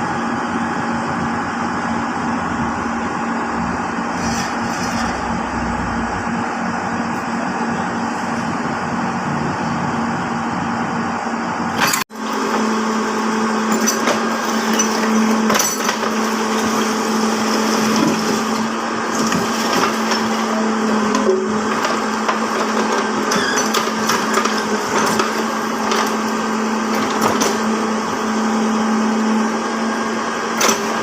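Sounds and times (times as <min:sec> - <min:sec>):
construction machinery noise: 0:00.0 - 0:31.0
steady motor hum: 0:00.0 - 0:31.0.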